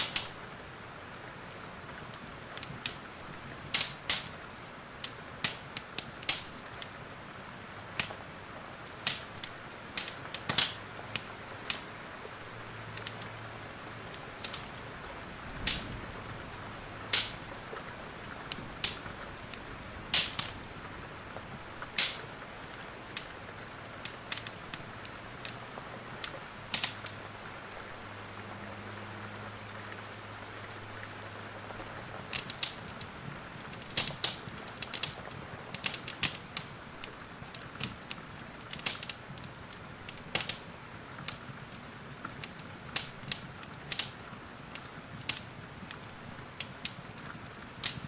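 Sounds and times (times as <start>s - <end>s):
rain hissing: 0.0s - 48.0s
wood fire crackling: 0.0s - 48.0s.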